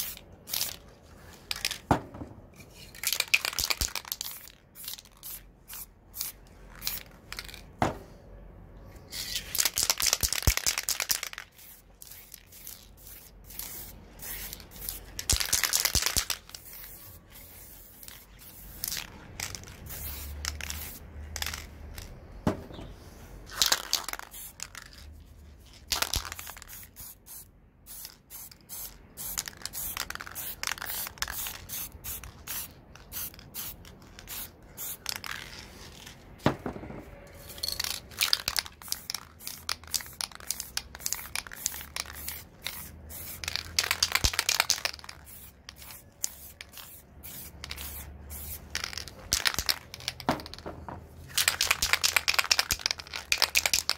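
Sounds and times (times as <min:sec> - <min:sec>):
spray paint can hissing: 0:00.0 - 0:01.8, 0:02.6 - 0:07.6, 0:09.1 - 0:22.2, 0:23.4 - 0:25.0, 0:25.8 - 0:36.1, 0:37.8 - 0:50.6, 0:51.3 - 0:53.9.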